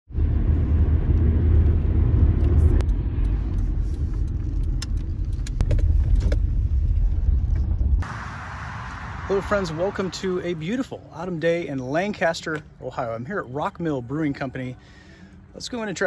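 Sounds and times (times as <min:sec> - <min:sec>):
car road and engine rumble: 0:00.1 - 0:16.0.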